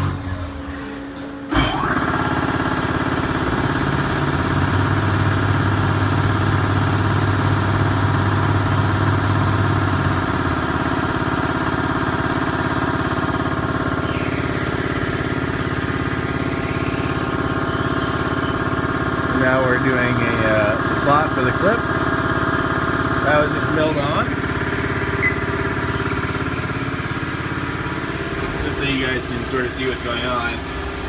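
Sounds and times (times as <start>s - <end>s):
lathe machine hum: 0.0s - 31.0s.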